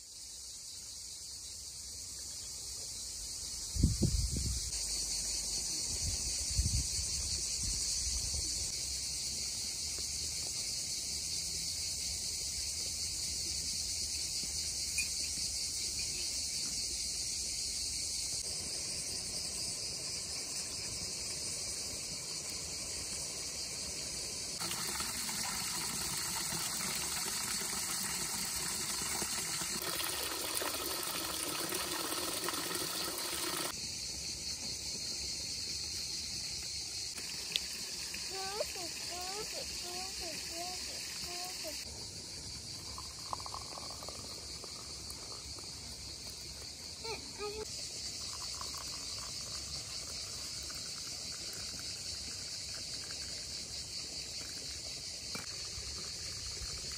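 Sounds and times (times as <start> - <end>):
insect chorus chirring: 0.0 - 56.9.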